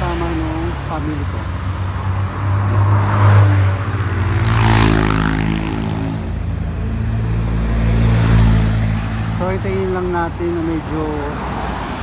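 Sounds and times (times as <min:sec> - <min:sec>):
car passing by: 0:00.0 - 0:09.7, 0:11.2 - 0:12.0
traffic engines humming: 0:00.0 - 0:12.0.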